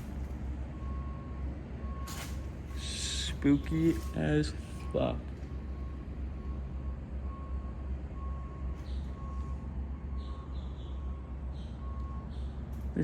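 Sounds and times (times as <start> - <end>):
vehicle warning beeper: 0.0 - 12.6
low engine rumble: 0.0 - 13.0.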